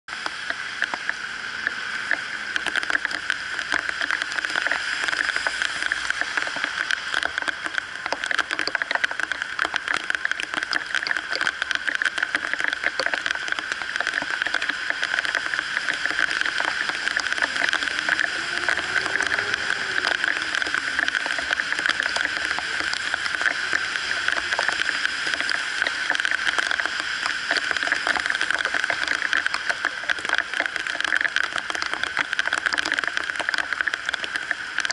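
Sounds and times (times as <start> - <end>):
heavy rain on pavement: 0.1 - 34.9
vehicle passing on wet road: 0.2 - 9.0, 13.2 - 34.9.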